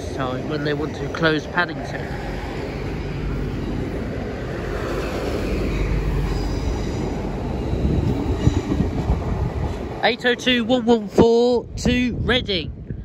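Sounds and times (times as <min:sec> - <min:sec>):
train wheels rumbling on rails: 0:00.0 - 0:11.8.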